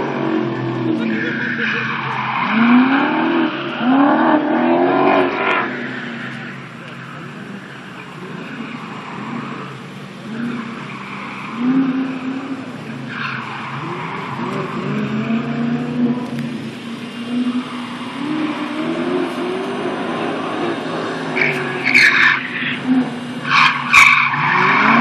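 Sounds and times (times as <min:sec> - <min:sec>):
rally car engine revving: 0:00.0 - 0:25.0
tyres skidding and squealing: 0:00.0 - 0:25.0.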